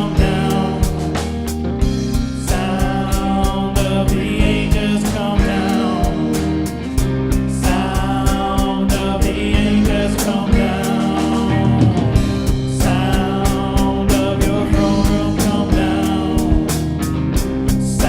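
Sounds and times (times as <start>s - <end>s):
band playing instrumental: 0.0s - 18.0s
steady drum beat: 0.0s - 18.0s.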